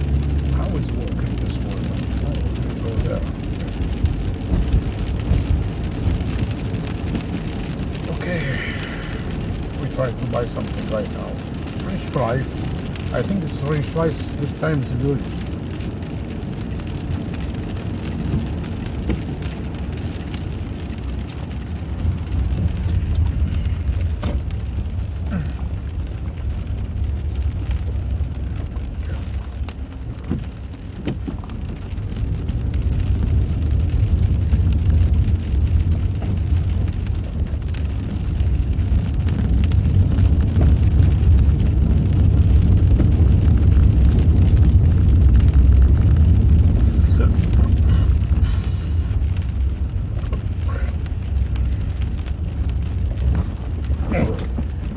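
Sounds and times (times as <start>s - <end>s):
heavy low rumble: 0.0s - 54.9s
steady rain: 0.0s - 54.9s.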